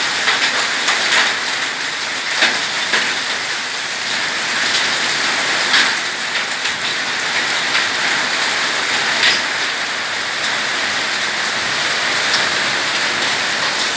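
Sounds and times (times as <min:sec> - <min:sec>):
heavy rain pouring: 0:00.0 - 0:13.9
raindrops splattering: 0:00.0 - 0:13.9.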